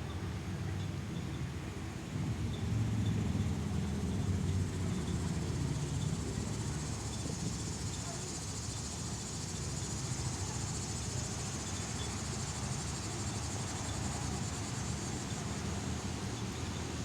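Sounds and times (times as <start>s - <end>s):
insects chirping: 2.5s - 17.0s.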